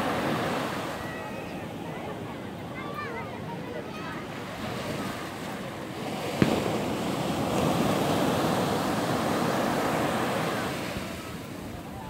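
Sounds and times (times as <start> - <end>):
waves breaking on sandy shore: 0.0 - 12.0.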